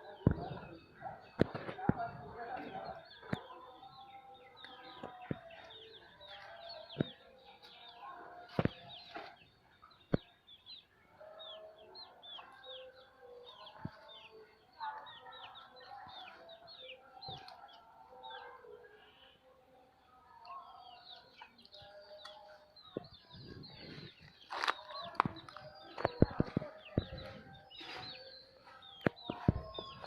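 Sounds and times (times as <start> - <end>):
chicks chirping: 0.1 - 18.4, 20.8 - 30.0.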